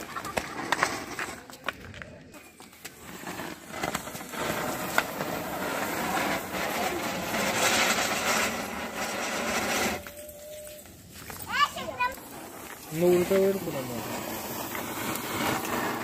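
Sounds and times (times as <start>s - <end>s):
firework hissing: 0.0s - 1.6s, 2.4s - 16.0s
sharp crackles: 0.0s - 16.0s.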